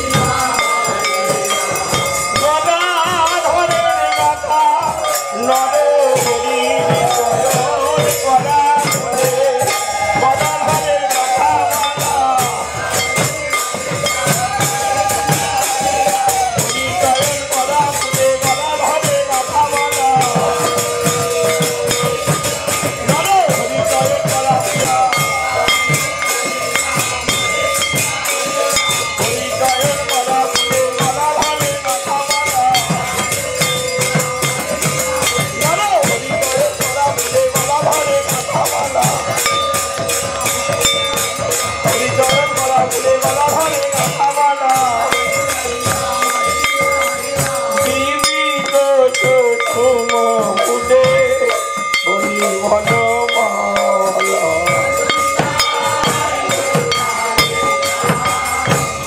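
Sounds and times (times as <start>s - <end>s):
barrel drum: 0.0s - 59.0s
hand cymbals jingling: 0.0s - 59.0s
wavering melody: 0.0s - 59.0s.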